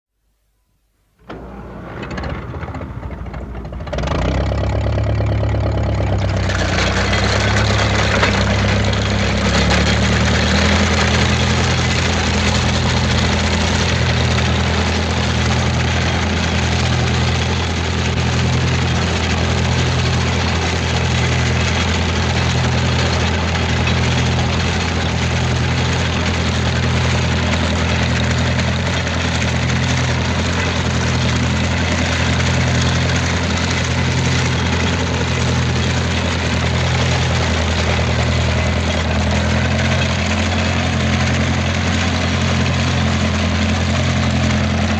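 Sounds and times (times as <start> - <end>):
tractor engine starting and running: 1.2 - 44.9.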